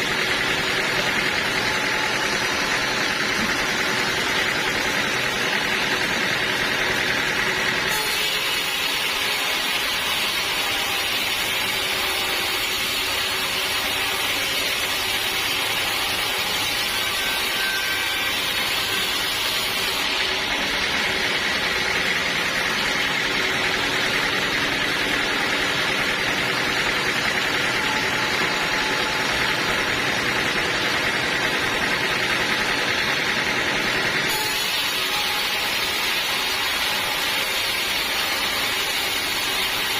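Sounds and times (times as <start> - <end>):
sawmill machinery cutting log: 0.0 - 39.9.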